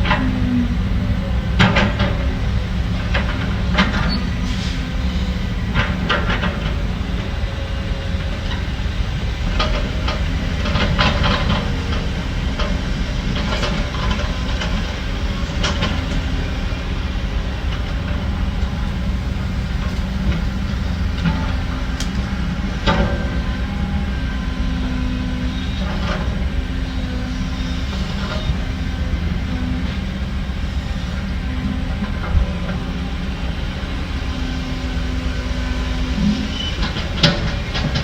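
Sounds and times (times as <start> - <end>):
diesel machinery running: 0.0 - 38.0.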